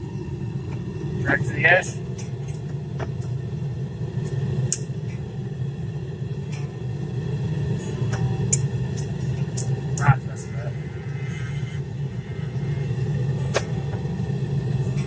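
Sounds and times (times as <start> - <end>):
forge low rumble: 0.0 - 15.0.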